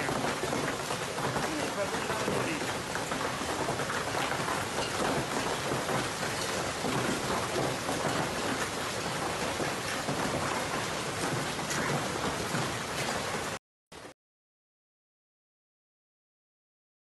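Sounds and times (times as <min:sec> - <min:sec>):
heavy rain and hail: 0:00.0 - 0:14.1.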